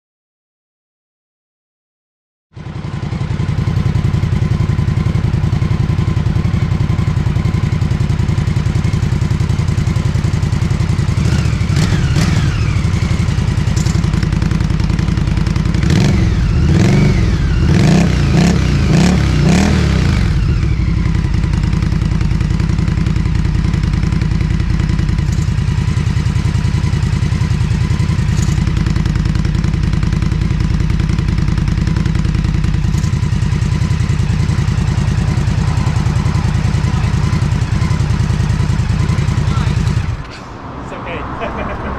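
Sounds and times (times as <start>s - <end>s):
motorcycle engine idling and revving: 2.5s - 41.9s.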